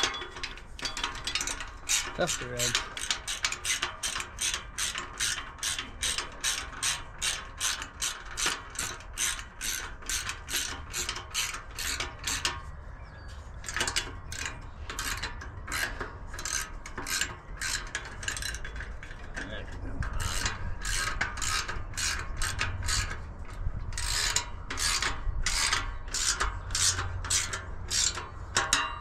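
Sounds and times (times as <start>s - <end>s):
ratchet wrench clicking: 0.0s - 12.6s, 13.6s - 19.2s, 20.0s - 28.9s.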